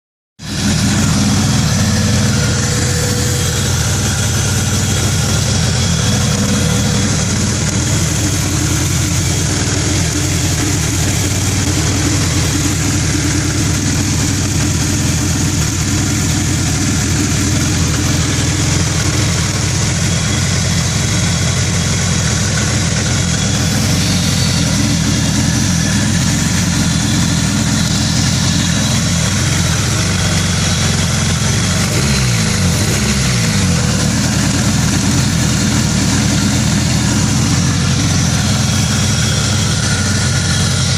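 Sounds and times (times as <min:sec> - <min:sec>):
car engine idling with misfire: 0:00.4 - 0:40.9.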